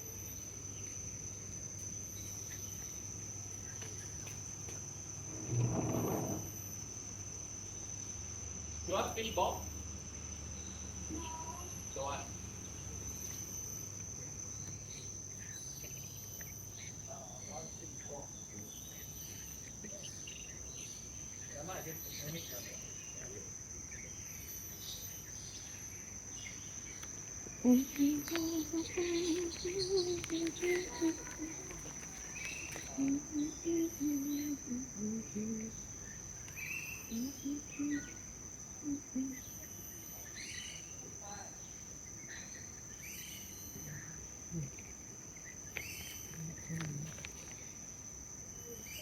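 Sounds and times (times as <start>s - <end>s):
insect drone: 0.0s - 49.0s
short insect chirps: 0.0s - 49.0s.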